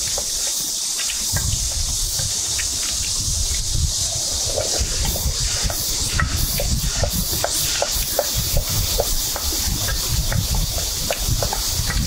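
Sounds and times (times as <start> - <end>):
cicadas droning: 0.0 - 12.0
wind rumble on microphone: 1.2 - 12.0.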